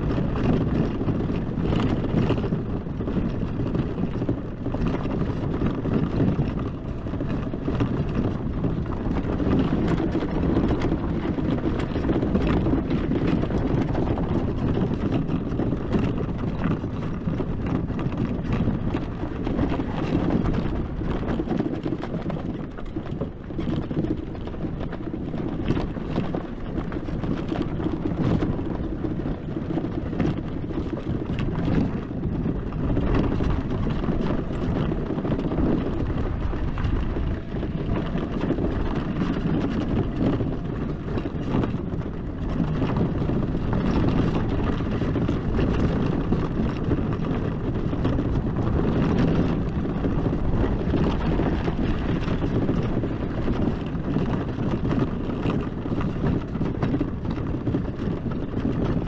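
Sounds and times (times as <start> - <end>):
knocks and rattles from quad: 0.0 - 59.0
rumble of vehicle over rough ground: 0.0 - 59.0
wind buffeting microphone: 0.0 - 59.0.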